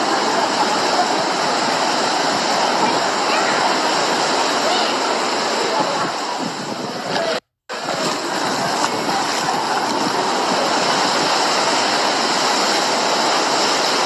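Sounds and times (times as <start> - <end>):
hurricane wind: 0.0 - 14.0
rushing water: 0.0 - 14.0.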